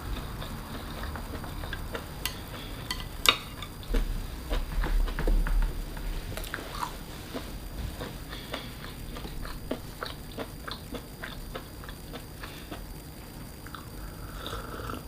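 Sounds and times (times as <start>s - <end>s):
chewing: 0.0s - 5.4s, 6.3s - 13.0s, 13.6s - 15.0s.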